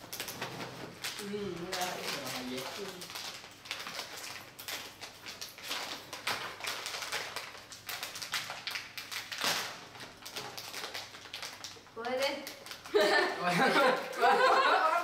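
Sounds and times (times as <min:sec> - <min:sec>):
plastic snack bag crinkling: 0:00.0 - 0:15.0.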